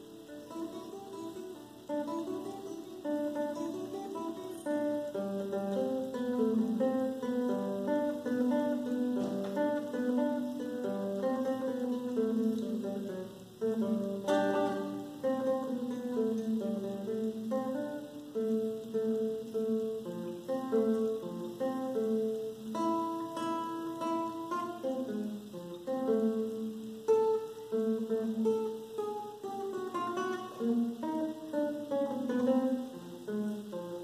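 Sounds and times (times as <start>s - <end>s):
classical guitar solo: 0.0s - 34.0s.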